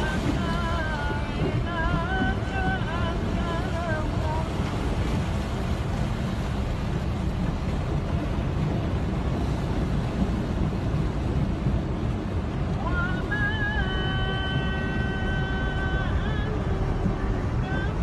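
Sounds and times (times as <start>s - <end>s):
low rumbling noise: 0.0s - 18.0s.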